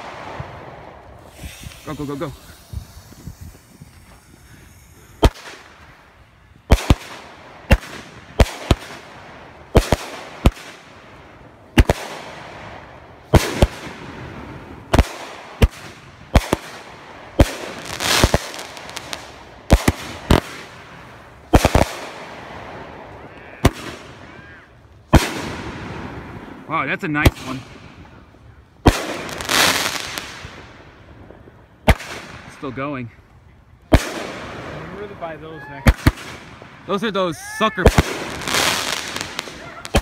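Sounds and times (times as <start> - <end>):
fireworks banging: 0.0 - 24.5, 25.1 - 32.9, 33.9 - 40.0
hiss and crackle of bursting stars: 0.0 - 40.0.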